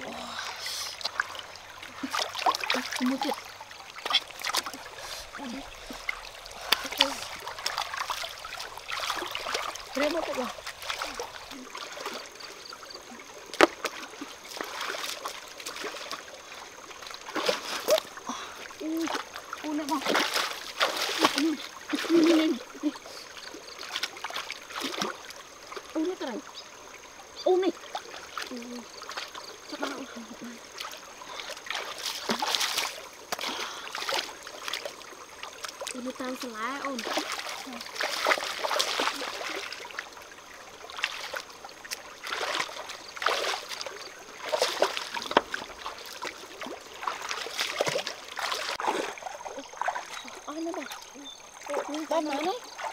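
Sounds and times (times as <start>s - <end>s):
water trickling and splashing: 0.0s - 52.9s.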